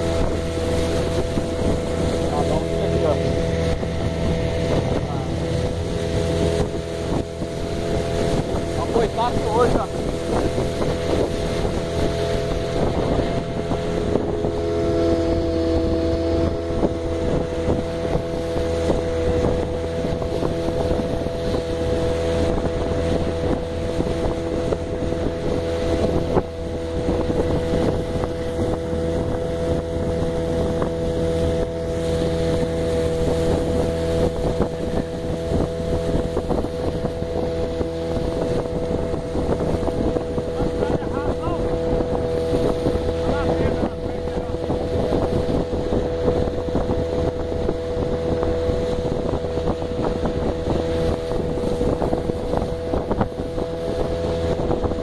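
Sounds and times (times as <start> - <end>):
motorboat engine humming: 0.0 - 55.0
wind buffeting microphone: 0.0 - 55.0.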